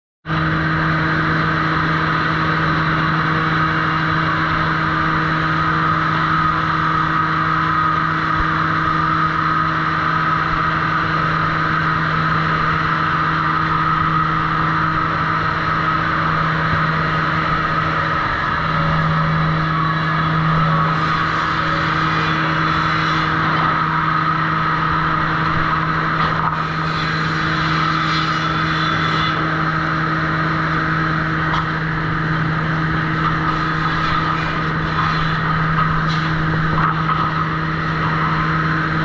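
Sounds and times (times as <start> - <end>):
sawmill machinery humming: 0.3 - 39.0.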